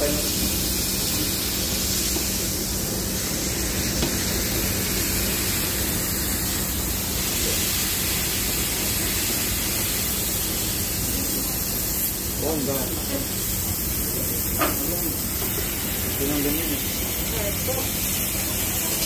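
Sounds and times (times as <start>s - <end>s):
burger patty sizzling on griddle: 0.0s - 19.0s.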